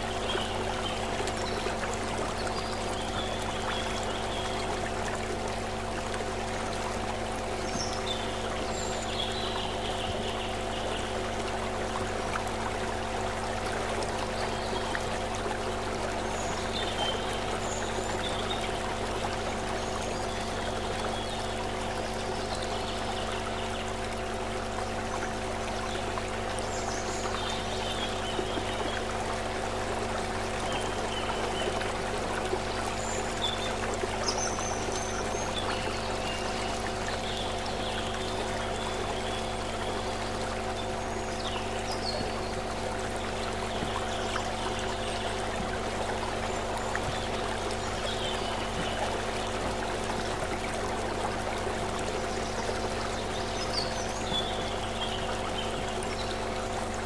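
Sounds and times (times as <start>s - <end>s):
stream water splashing over stones: 0.0s - 57.0s.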